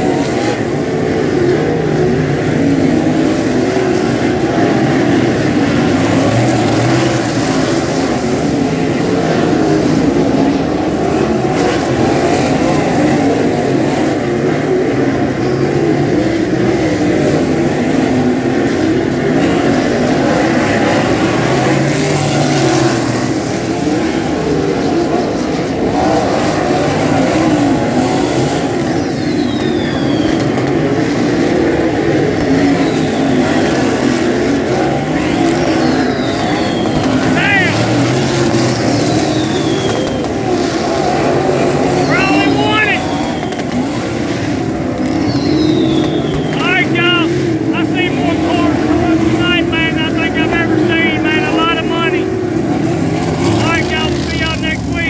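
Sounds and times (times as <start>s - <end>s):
racing car engines: 0.0s - 55.0s.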